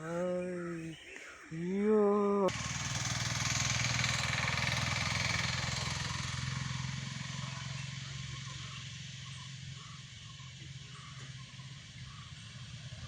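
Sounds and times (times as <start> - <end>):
vehicle engine passing: 2.5 - 13.0.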